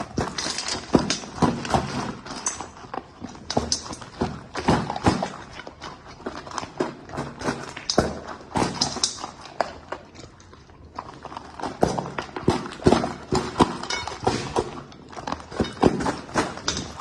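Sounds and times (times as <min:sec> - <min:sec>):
dog crunching dry food: 0:00.0 - 0:17.0.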